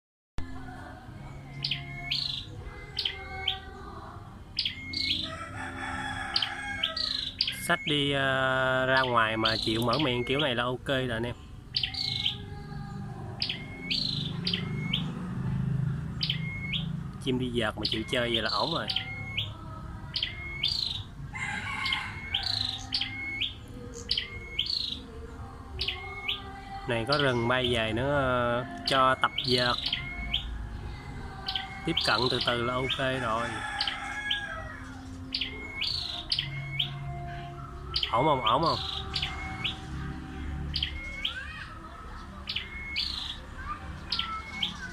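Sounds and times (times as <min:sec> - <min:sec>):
bird calling: 0:00.7 - 0:15.4, 0:16.0 - 0:44.9.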